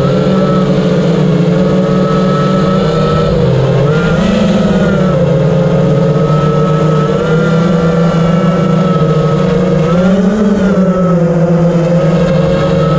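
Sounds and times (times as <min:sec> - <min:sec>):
quadcopter motors whining: 0:00.0 - 0:12.9.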